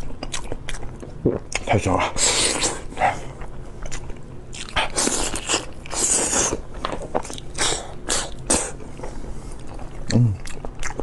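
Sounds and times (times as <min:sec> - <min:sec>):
person chewing meat: 0:00.0 - 0:01.7, 0:02.5 - 0:11.0.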